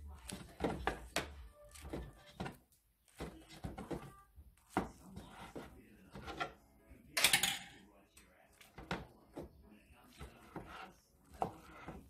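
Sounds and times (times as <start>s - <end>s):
knife chopping on plastic cutting board: 0.1s - 6.6s, 8.5s - 12.0s.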